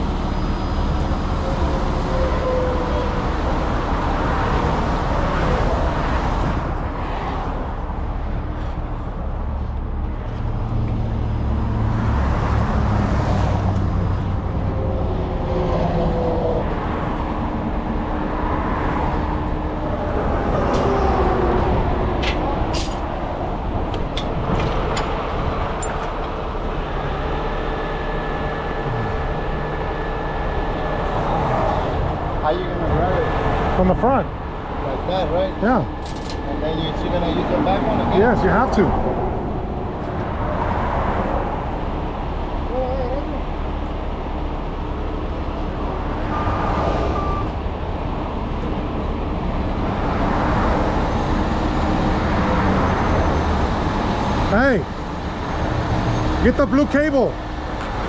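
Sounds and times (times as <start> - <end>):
truck diesel engine rumbling: 0.0 - 58.0.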